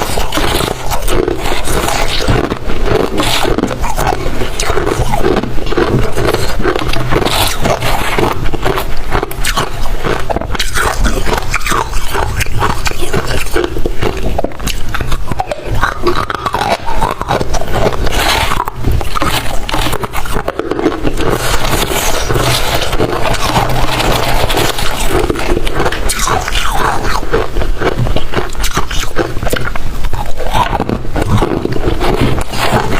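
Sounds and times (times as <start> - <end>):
ice scraping: 0.0 - 15.2, 16.7 - 27.6, 30.4 - 32.9
ice being chewed: 0.0 - 32.9.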